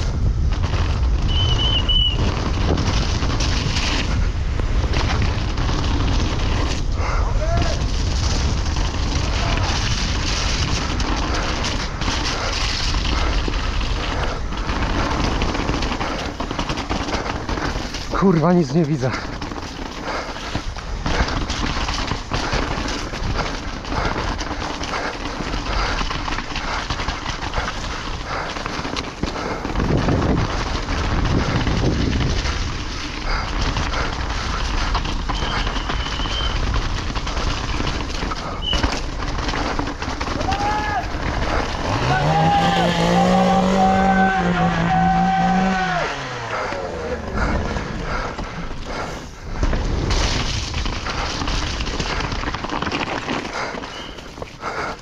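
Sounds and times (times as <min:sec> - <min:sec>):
wind rush: 0:00.0 - 0:26.0, 0:26.6 - 0:52.3
bike rattling over bumps: 0:00.0 - 0:55.0
bike tyre noise: 0:00.0 - 0:55.0.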